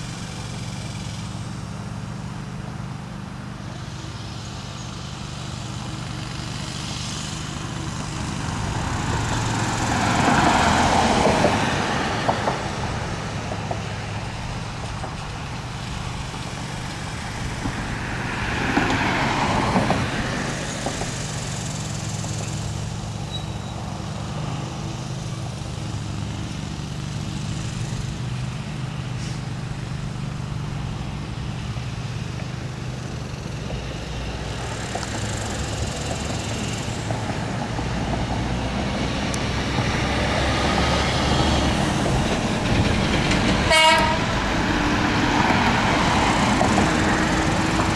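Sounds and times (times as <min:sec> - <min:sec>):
steady low traffic hum: 0:00.0 - 0:47.9
vehicles passing: 0:00.0 - 0:47.9.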